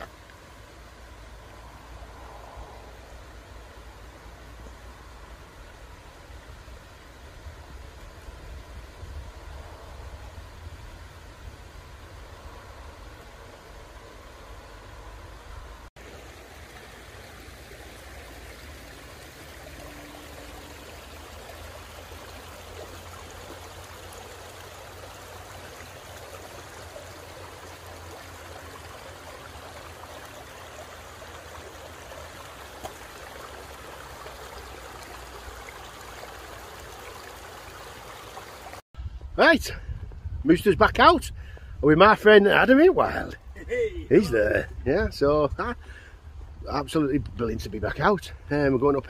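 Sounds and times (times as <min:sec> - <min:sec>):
stream running over stones: 0:00.0 - 0:38.8, 0:41.8 - 0:49.0.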